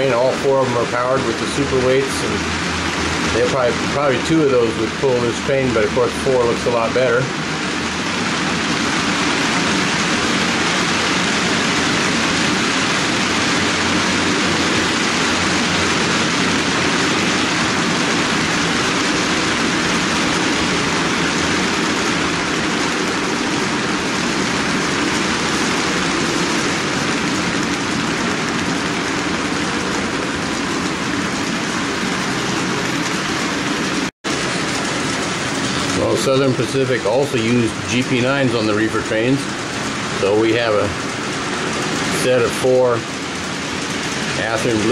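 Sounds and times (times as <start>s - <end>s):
model train wheels rumbling on rails: 0.0s - 7.6s, 8.4s - 44.9s.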